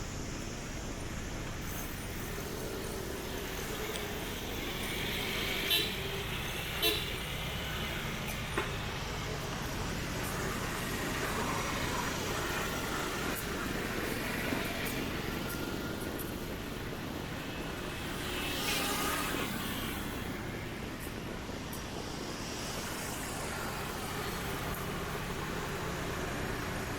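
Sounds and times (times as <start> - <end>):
street traffic: 0.0 - 26.9.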